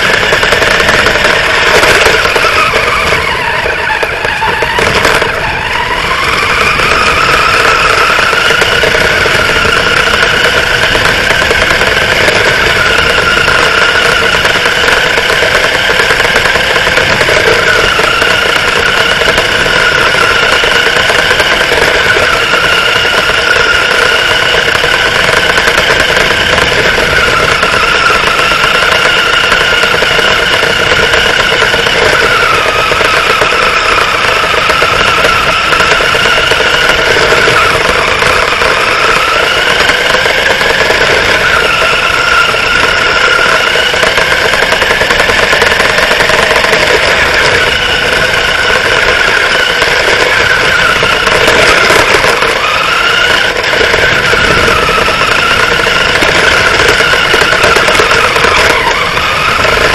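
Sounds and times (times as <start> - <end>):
radio-controlled car motor whine: 0.0 - 59.9
rattling road noise: 0.0 - 59.9.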